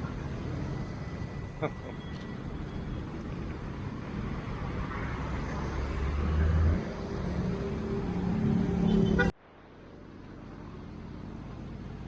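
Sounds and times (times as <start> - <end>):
road traffic noise: 0.0 - 12.0
vehicle engine rumble: 0.0 - 12.0.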